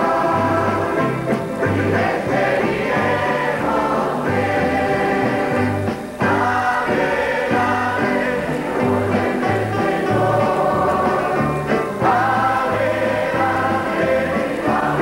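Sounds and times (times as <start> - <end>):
accordion: 0.0 - 15.0
choir singing a hymn: 0.0 - 15.0
mandolins: 0.0 - 15.0
strummed acoustic guitars: 0.0 - 15.0.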